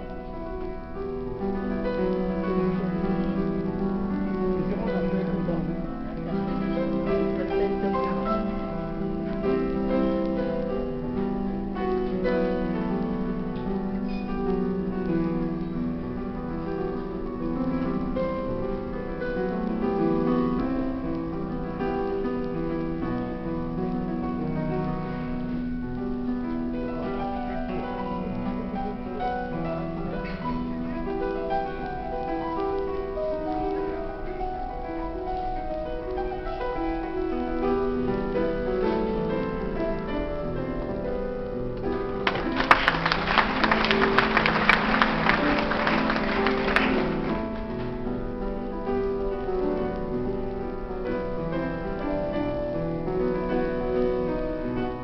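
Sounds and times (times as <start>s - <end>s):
instrumental piano music: 0.0s - 55.0s.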